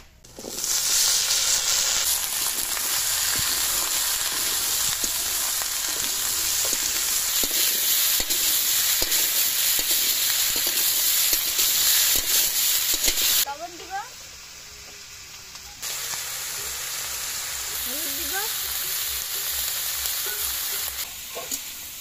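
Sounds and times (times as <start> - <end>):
vegetables sizzling in hot oil: 0.2 - 22.0.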